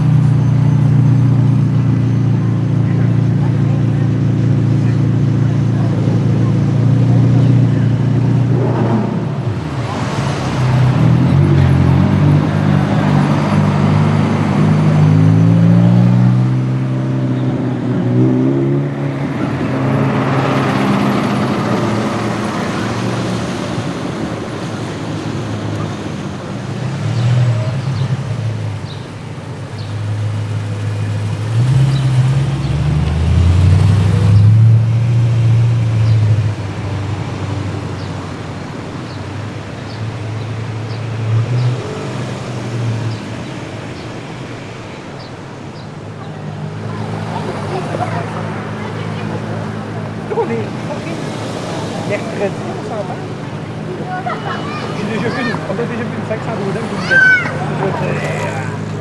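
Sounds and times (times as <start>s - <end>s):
car engines accelerating: 0.0s - 59.0s
engine revving: 0.0s - 59.0s
rush of passing traffic: 0.0s - 59.0s.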